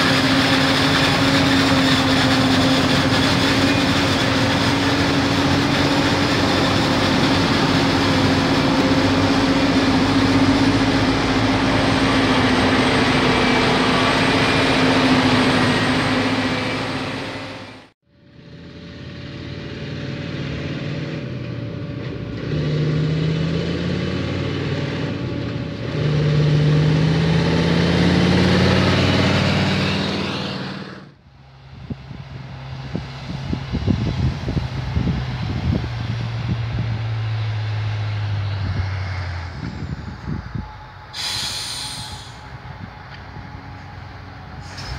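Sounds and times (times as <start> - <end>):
farm machinery droning: 0.0 - 44.9
truck engine revving: 0.0 - 44.9.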